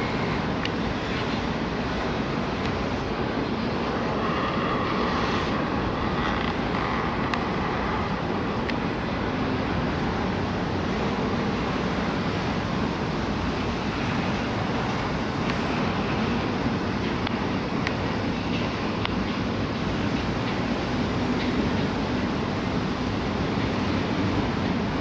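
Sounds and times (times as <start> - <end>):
train wheels rolling on track: 0.0 - 25.0.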